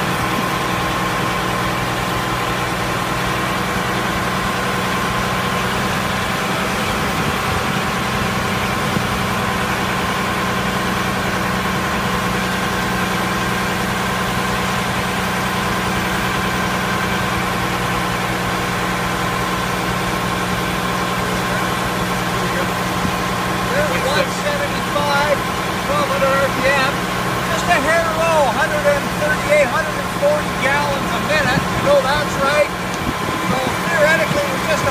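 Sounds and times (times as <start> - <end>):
fire engine pump running: 0.0 - 34.9.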